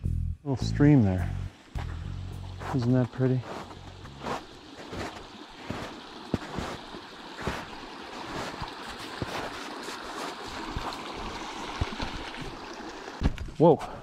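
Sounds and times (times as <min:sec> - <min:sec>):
stream rushing: 0:01.5 - 0:13.3.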